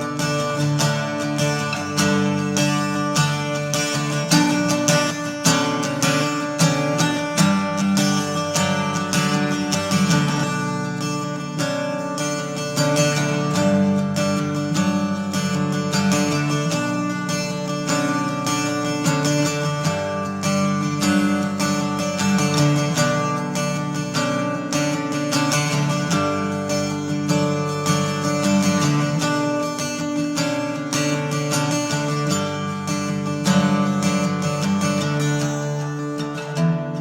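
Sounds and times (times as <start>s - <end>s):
strummed acoustic guitar music: 0.0s - 37.0s.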